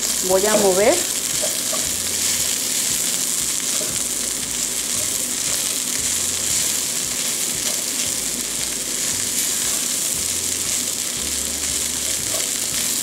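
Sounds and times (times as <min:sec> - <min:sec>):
corn frying with steady sizzle: 0:00.0 - 0:13.0.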